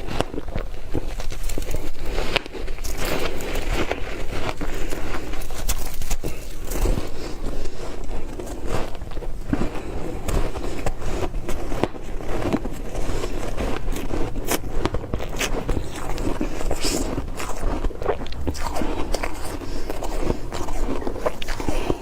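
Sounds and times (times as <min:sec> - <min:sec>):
ice crunching between teeth: 0:00.0 - 0:22.0.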